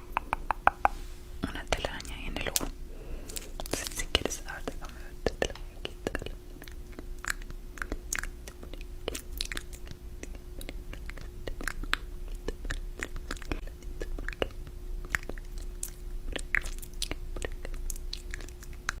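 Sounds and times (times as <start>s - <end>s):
faint steady hum: 0.0s - 19.0s
crunching and chewing: 3.2s - 19.0s.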